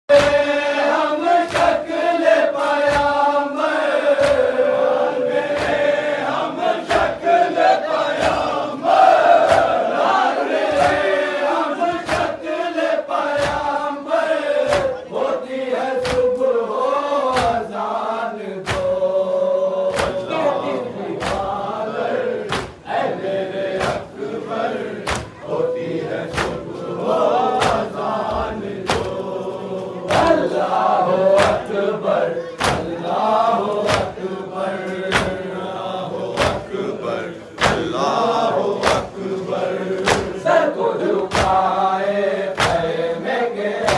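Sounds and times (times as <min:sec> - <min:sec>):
men chanting in unison: 0:00.1 - 0:43.9
rhythmic chest-beating slaps: 0:00.1 - 0:43.9.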